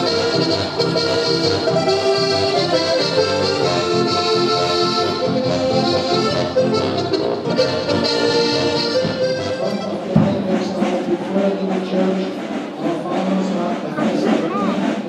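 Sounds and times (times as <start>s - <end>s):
instrumental folk music: 0.0s - 15.0s.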